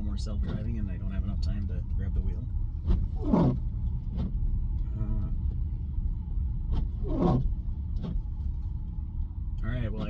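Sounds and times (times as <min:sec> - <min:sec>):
road and tyre rumble: 0:00.0 - 0:10.0.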